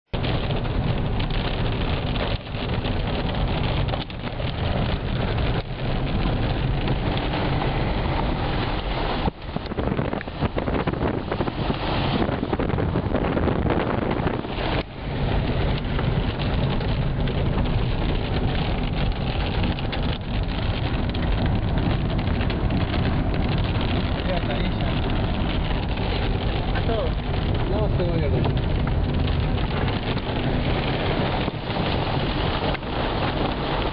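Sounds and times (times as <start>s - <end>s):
wind: 0.1s - 33.9s
hail drumming on car roof: 0.2s - 33.9s.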